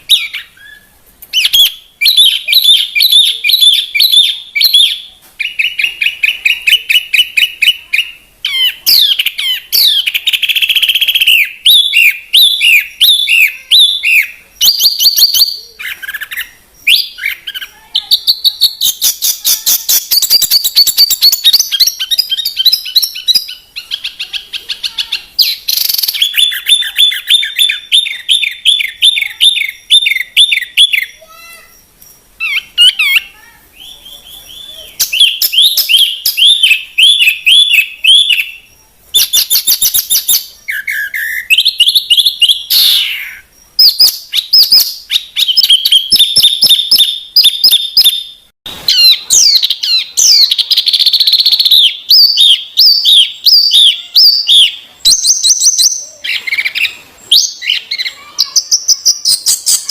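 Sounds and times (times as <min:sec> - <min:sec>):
songbird chirping and trilling: 0:00.0 - 0:59.9.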